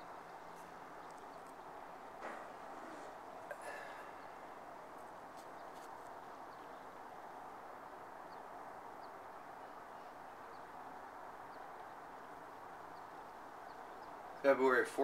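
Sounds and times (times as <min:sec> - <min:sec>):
faint rushing hiss: 0:00.0 - 0:15.0.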